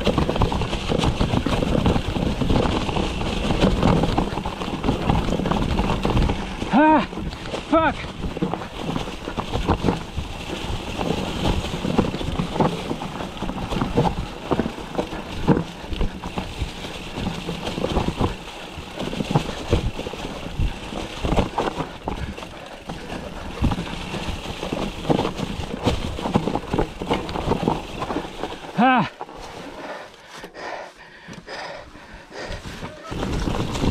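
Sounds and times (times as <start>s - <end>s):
bike knocking and rattling: 0.0s - 33.9s
steady rushing noise: 0.0s - 33.9s.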